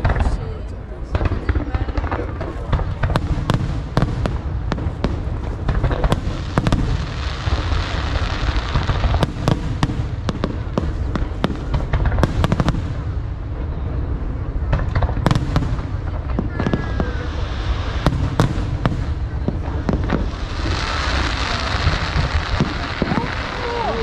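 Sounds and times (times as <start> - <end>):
continuous low rumble: 0.0 - 24.0
fireworks bangs and crackles: 0.0 - 24.0.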